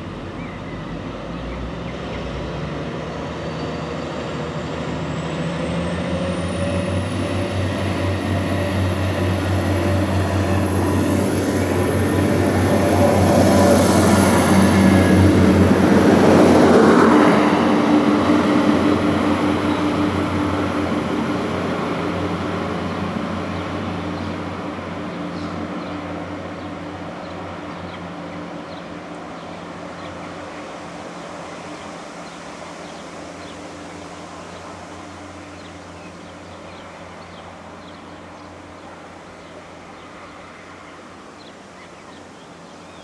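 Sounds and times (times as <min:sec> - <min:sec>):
diesel train passing: 0:00.0 - 0:43.0.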